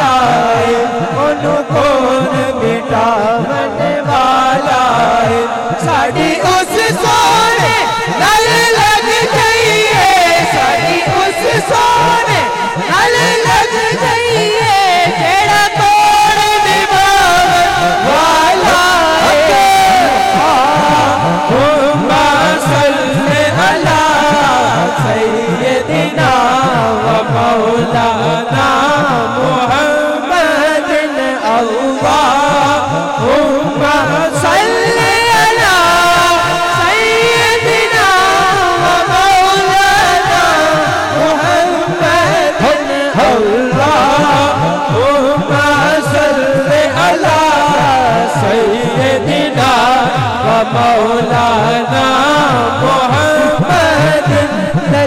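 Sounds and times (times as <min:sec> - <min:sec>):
man singing into a microphone: 0:00.0 - 0:55.0.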